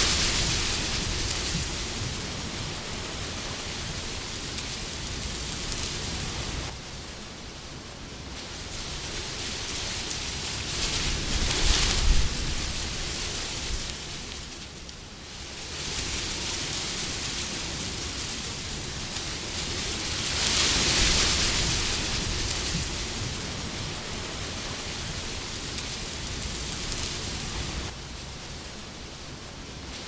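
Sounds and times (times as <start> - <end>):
wind blowing: 0.0 - 30.0.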